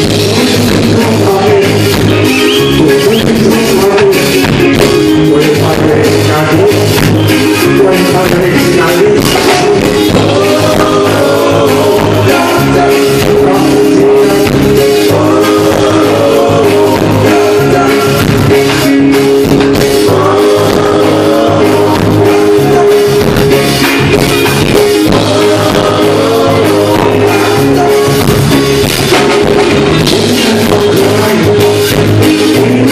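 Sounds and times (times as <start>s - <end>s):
live reggae band playing: 0.0s - 32.9s
person singing: 0.0s - 32.9s.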